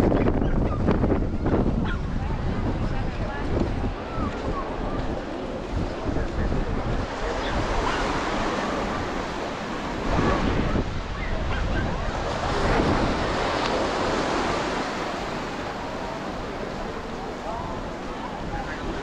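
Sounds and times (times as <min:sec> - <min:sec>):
ocean surf washing on beach: 0:00.0 - 0:19.0
wind rumbling on microphone: 0:00.0 - 0:19.0.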